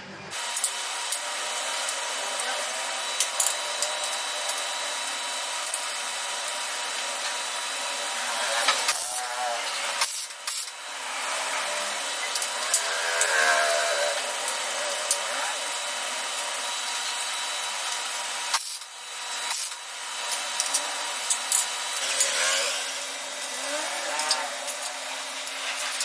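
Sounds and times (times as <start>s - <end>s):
power tool running: 0.3s - 26.0s.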